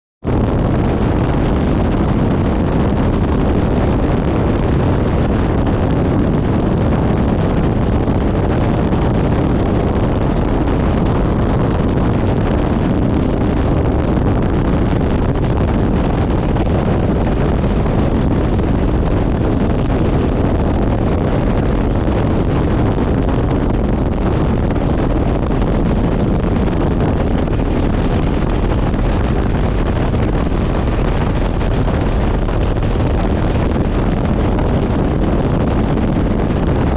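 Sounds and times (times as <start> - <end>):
helicopter rotor and engine noise: 0.3 - 36.9.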